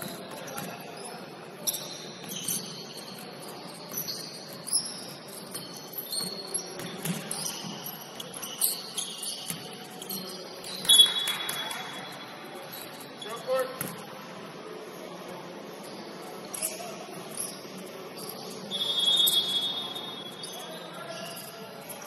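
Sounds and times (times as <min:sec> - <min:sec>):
shoes squeaking on court floor: 0:00.0 - 0:14.4, 0:15.0 - 0:22.0.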